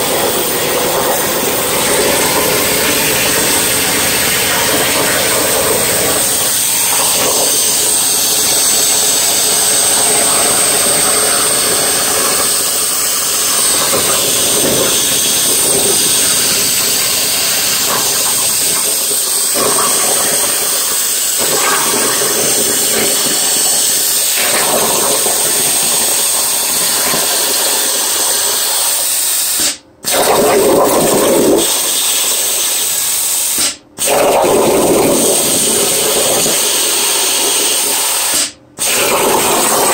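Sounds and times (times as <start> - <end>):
plasma cutting arc hissing: 0.0 - 30.3, 31.6 - 39.9.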